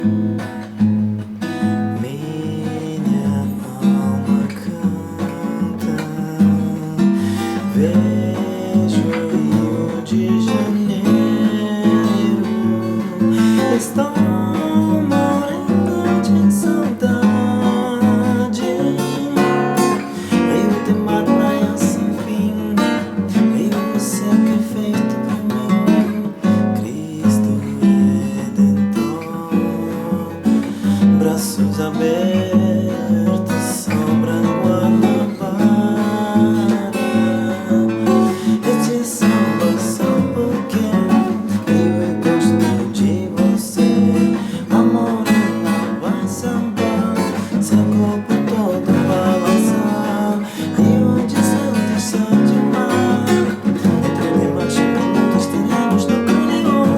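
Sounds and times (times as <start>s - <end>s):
acoustic guitar strumming: 0.0s - 56.9s.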